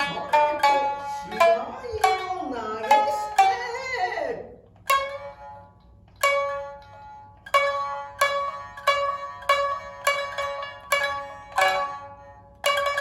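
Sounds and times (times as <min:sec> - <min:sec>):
shamisen plucks: 0:00.0 - 0:13.0.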